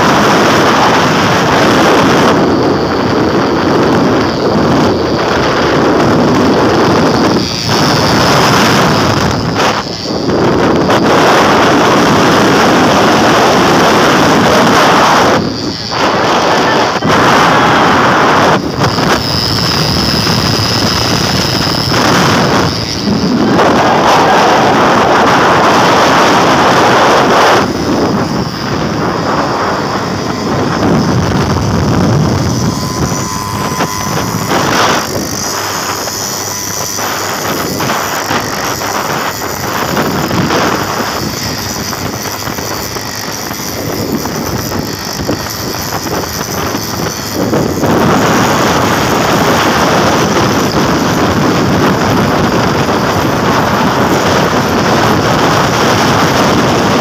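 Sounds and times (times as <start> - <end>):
vehicle and road noise: 0.0 - 57.0
wind rushing over microphone: 0.0 - 57.0.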